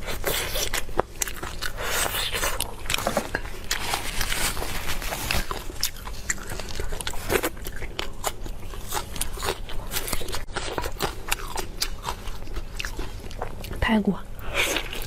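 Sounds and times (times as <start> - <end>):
person biting and chewing food: 0.0 - 13.8, 14.5 - 15.0.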